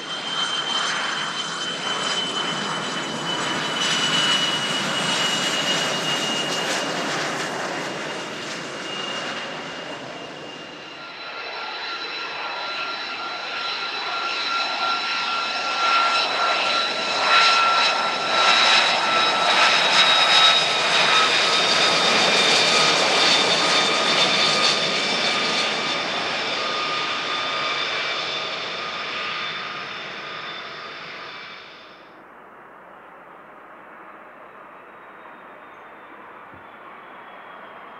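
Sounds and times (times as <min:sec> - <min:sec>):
jet engine high whine: 0:00.0 - 0:37.9
jet engine noise: 0:00.0 - 0:37.9.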